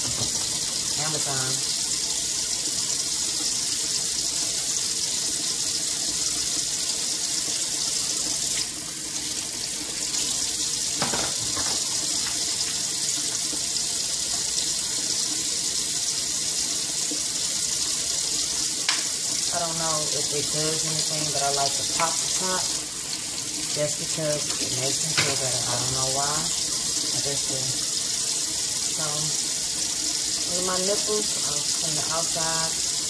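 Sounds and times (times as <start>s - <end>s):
faucet running into sink: 0.0s - 33.0s.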